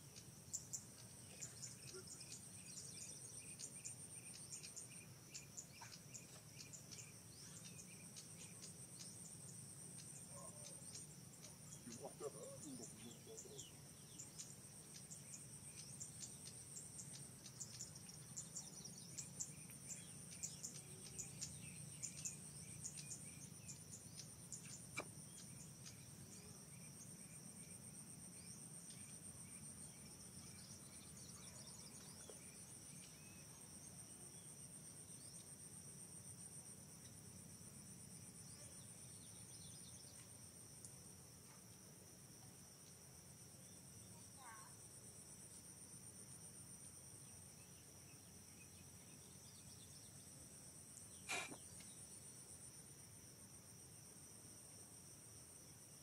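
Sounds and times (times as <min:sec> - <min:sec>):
insect chorus: 0:00.0 - 0:56.0
short insect chirps: 0:00.0 - 0:56.0.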